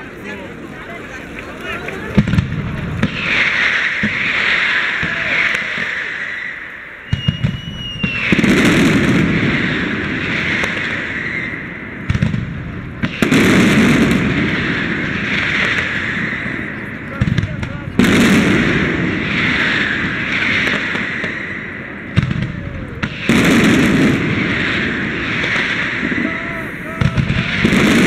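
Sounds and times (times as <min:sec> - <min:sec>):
fireworks crackling and rumbling: 0:00.0 - 0:28.0
fireworks bangs: 0:01.3 - 0:28.0
fireworks whistle: 0:03.0 - 0:12.4, 0:13.0 - 0:17.0, 0:18.0 - 0:28.0.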